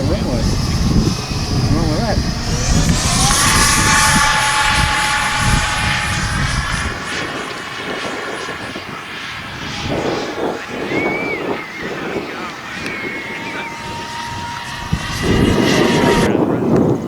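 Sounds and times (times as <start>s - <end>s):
model jet fan whining: 0.0s - 17.0s
wind rumble on microphone: 0.0s - 17.0s.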